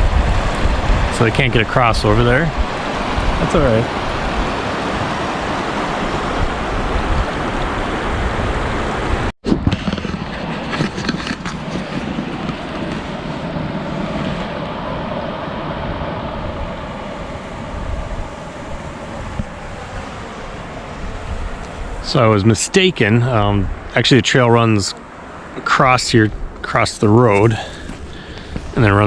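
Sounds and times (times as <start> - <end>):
meltwater rushing: 0.0 - 29.0
wind blowing across microphone: 0.0 - 29.0.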